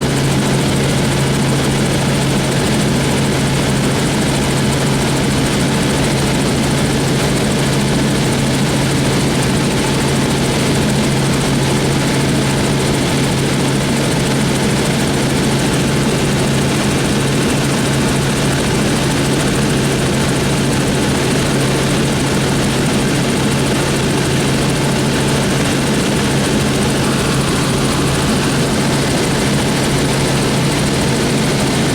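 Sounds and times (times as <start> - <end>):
helicopter rotor and engine drone: 0.0 - 31.9.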